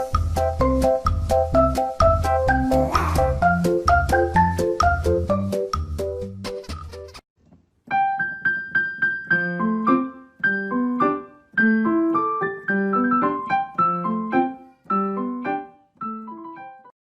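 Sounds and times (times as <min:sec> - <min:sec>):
piano-like keyboard music: 0:00.0 - 0:06.7, 0:07.9 - 0:17.0.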